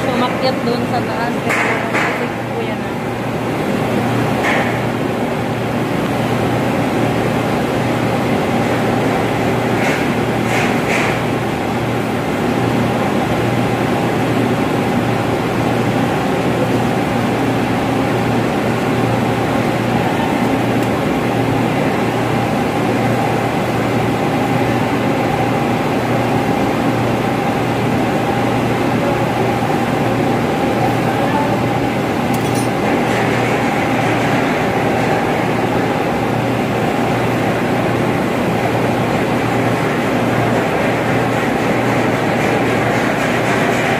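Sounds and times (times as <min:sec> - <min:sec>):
fan machinery drone: 0:00.0 - 0:43.9.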